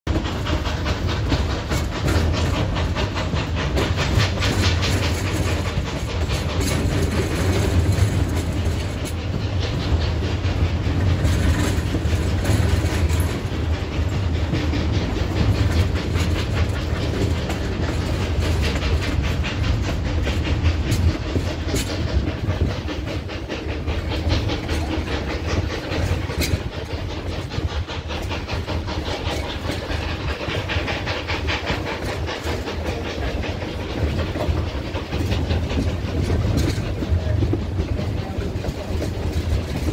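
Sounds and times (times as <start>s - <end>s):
train coaches rumbling: 0.0s - 39.9s
wheels clicking over rail joints: 0.1s - 39.9s.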